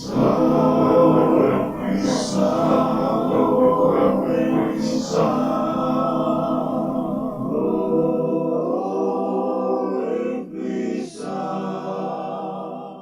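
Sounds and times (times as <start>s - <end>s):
music with singing voices: 0.0s - 13.0s.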